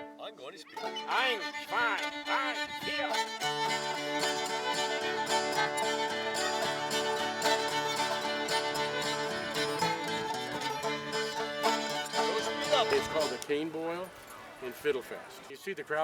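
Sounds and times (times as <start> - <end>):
plucked strings: 0.0 - 14.3
fiddle: 0.0 - 15.9.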